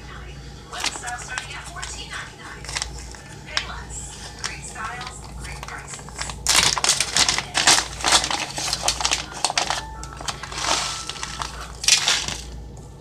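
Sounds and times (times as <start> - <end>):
plastic snack bag crackling: 0.6 - 12.8.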